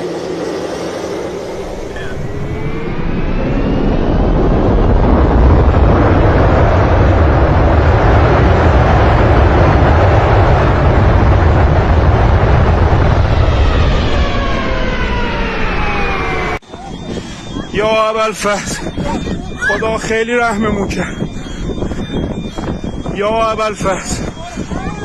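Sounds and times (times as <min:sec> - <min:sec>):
airliner engines roaring: 0:00.0 - 0:25.0.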